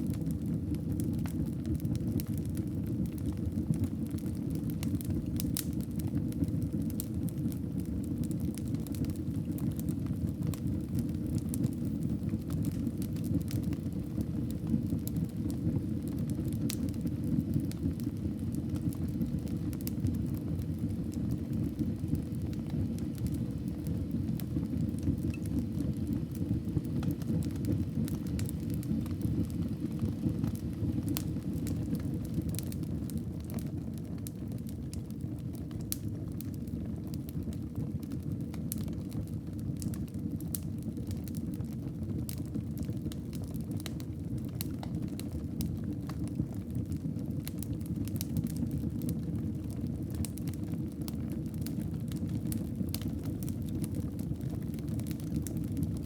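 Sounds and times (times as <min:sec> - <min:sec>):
fire crackling and popping: 0:00.0 - 0:56.0
wood fire burning: 0:00.0 - 0:56.0.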